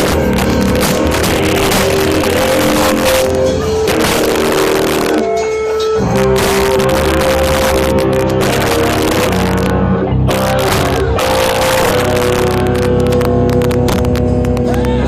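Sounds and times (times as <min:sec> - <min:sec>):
distorted live rock band: 0:00.0 - 0:15.0.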